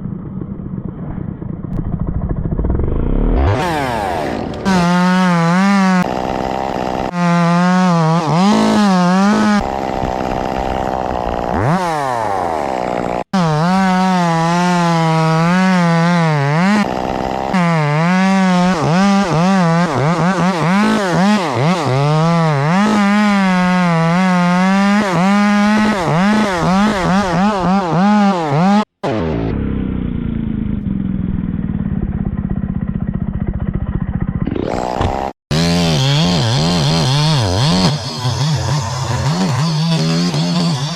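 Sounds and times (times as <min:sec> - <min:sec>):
chainsaw engine at high revs: 0:02.6 - 0:40.9.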